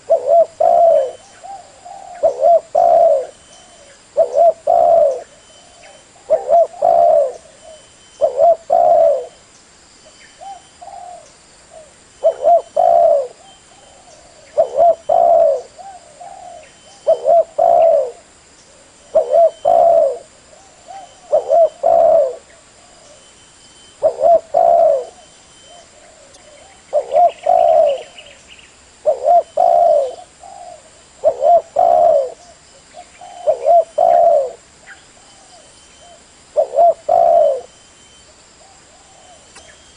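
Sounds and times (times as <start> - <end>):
dove cooing: 0.0 - 9.4, 10.4 - 23.3, 24.0 - 28.4, 29.0 - 39.9.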